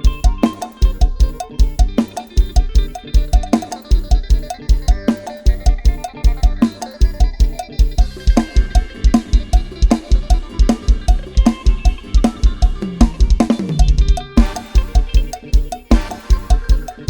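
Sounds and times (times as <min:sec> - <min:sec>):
drum kit fast beat: 0:00.0 - 0:17.0.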